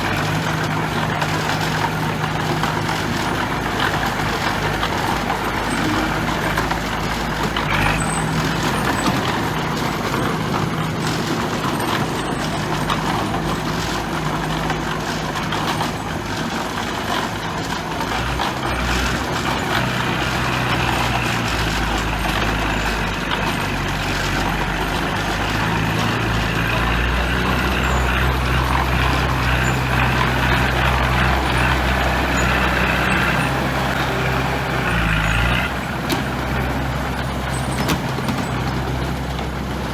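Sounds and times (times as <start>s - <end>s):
bulldozer engine running: 0.0s - 39.9s
dump truck engines: 0.0s - 39.9s.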